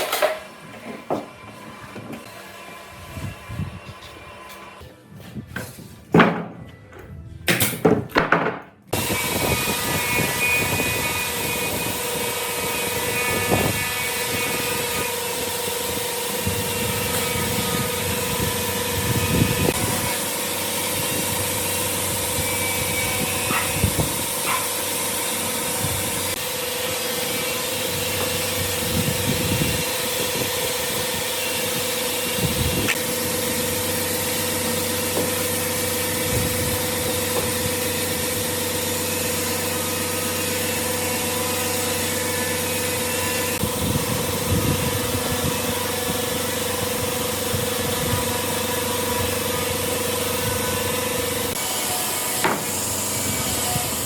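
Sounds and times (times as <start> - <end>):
woodworking machine humming: 0.0 - 4.9, 9.0 - 54.0.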